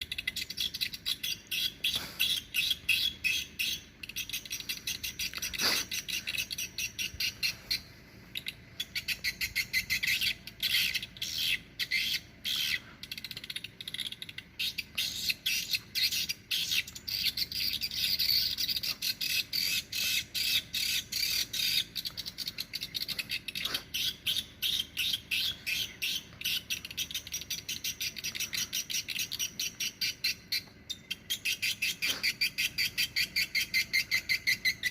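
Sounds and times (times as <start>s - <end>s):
high-pitched bird chirps: 0.0s - 34.9s.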